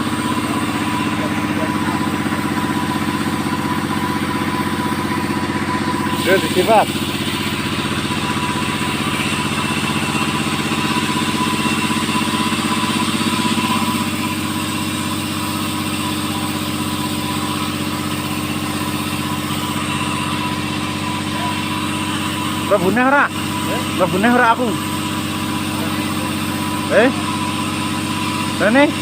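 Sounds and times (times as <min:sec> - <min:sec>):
chainsaw running: 0:00.0 - 0:29.0.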